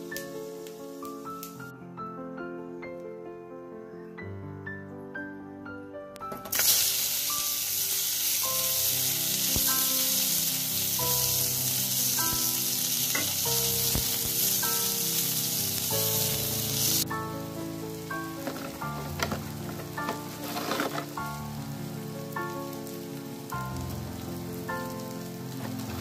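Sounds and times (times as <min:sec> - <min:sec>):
onions sizzling in hot oil: 0:00.0 - 0:01.7, 0:06.4 - 0:26.0
light background melody: 0:00.0 - 0:26.0.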